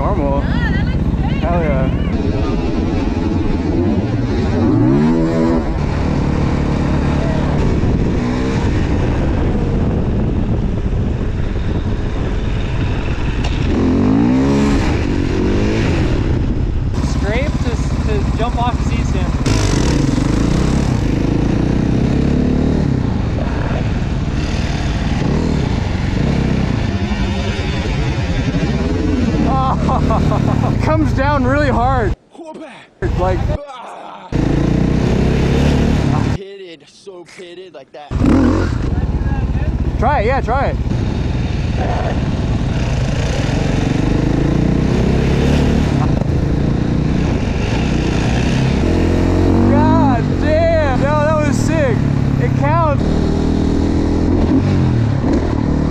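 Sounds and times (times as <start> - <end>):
motorcycle engine revving: 0.0 - 32.2, 33.0 - 33.6, 34.3 - 36.4, 38.1 - 55.9.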